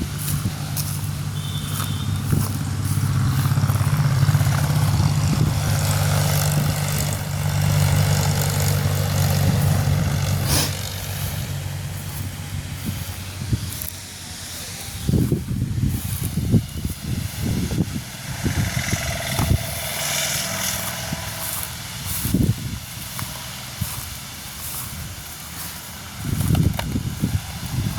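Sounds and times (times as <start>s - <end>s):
engine running steadily: 0.0s - 27.9s.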